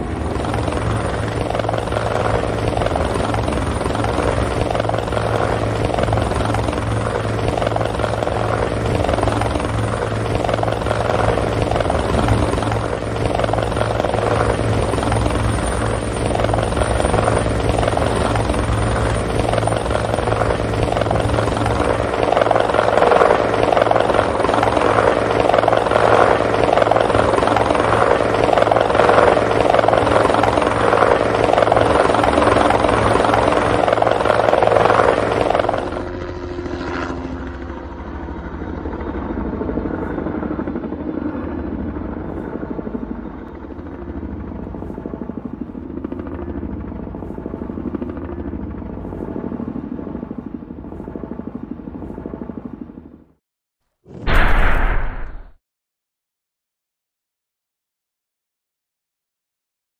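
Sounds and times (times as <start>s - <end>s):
helicopter engine drone: 0.0s - 53.4s
helicopter rotor chop: 0.0s - 53.4s.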